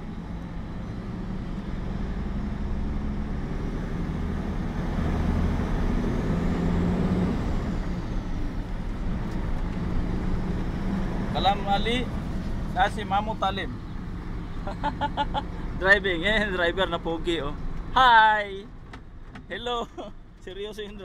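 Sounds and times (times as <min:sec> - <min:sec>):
diesel truck engine: 0:00.0 - 0:21.0
road noise from inside cab: 0:00.0 - 0:21.0.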